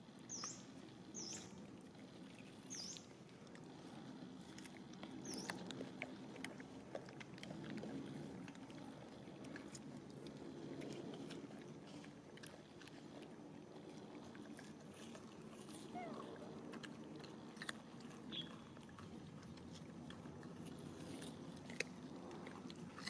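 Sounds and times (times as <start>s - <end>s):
monkey chewing clicks: 2.4s - 23.0s.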